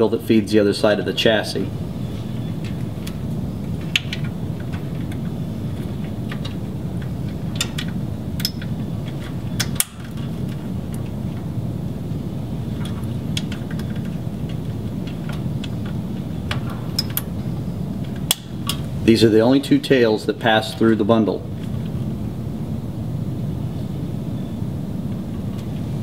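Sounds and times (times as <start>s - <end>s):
low rushing room noise: 0.0s - 26.0s.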